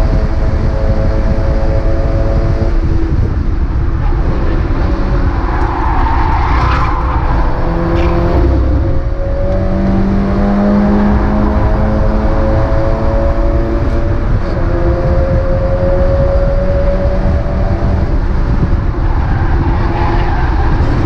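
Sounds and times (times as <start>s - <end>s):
race car engine: 0.0s - 21.0s
rush of noise: 0.0s - 21.0s.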